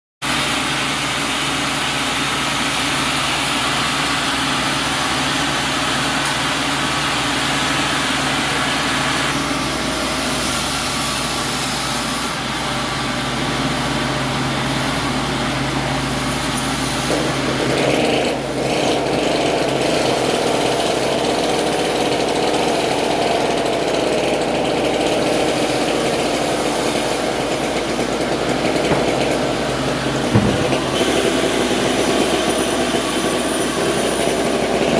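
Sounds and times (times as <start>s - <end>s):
sawmill saw running: 0.3s - 34.9s.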